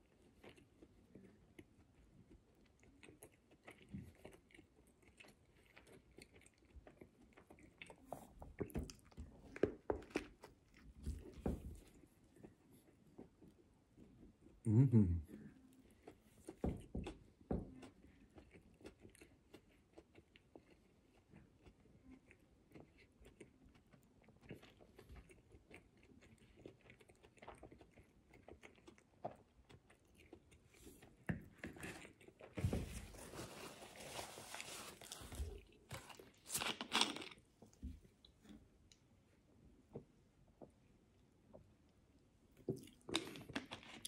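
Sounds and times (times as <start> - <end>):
close-up chewing: 0.0 - 14.6, 15.4 - 39.1, 42.5 - 44.0.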